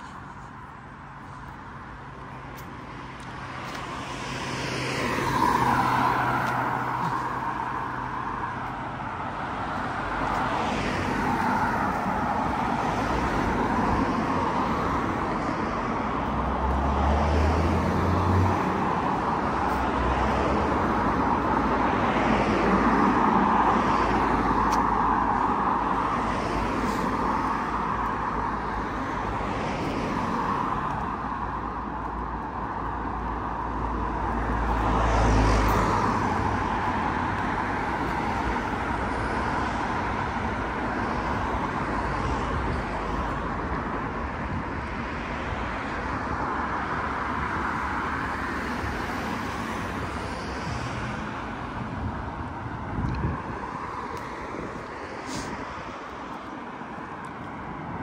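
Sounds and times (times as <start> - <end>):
cars passing on tarmac: 0.0 - 58.0.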